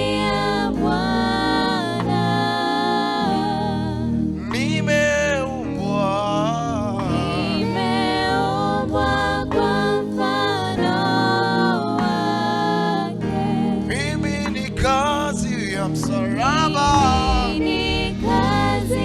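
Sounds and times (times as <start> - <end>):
instrumental backing chords: 0.0 - 19.0
person singing gospel song: 0.0 - 19.0.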